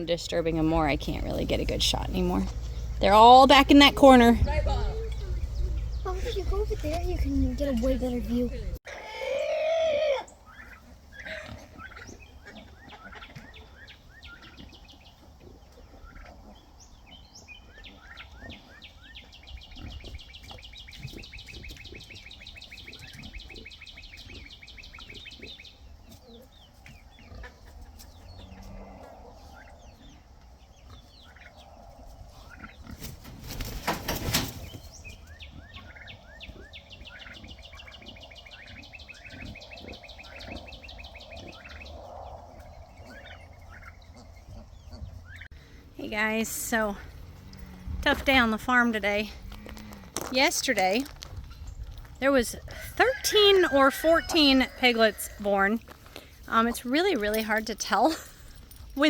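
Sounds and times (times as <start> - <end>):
farmyard animals calling: 0.0 - 58.3.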